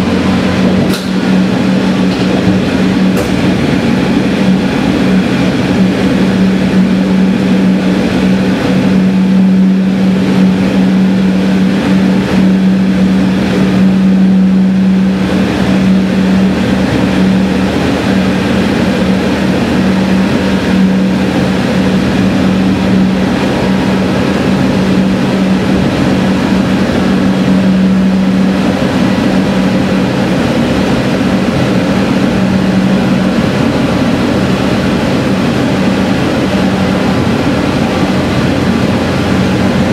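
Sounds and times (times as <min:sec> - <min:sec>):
diesel railcar engine drone: 0:00.0 - 0:39.9
wheel and rail noise: 0:00.0 - 0:39.9.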